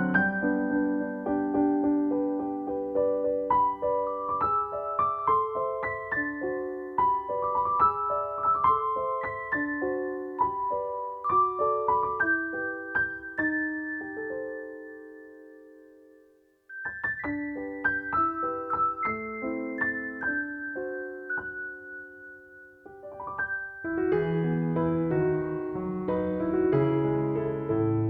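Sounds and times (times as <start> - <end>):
gentle solo piano melody: 0.0 - 28.0.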